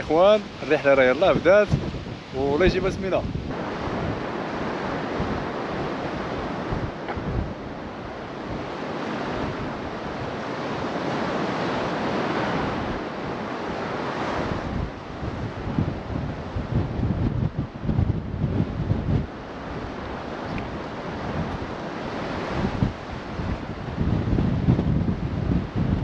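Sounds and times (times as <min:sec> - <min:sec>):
surf washing against shore: 0:00.0 - 0:26.0
wind on microphone: 0:00.0 - 0:26.0.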